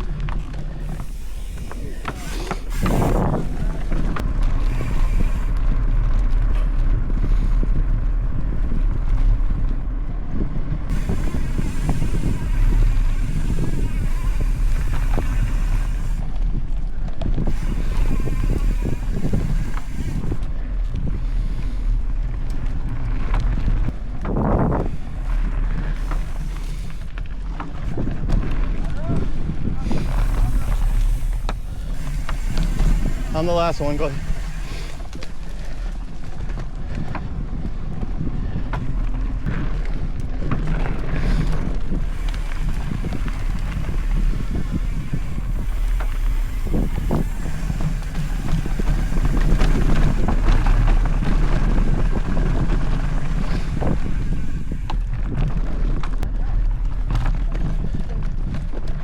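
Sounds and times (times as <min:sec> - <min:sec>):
bike tyres knocking on dirt trail: 0:00.0 - 0:59.0
wind buffeting microphone: 0:00.0 - 0:59.0.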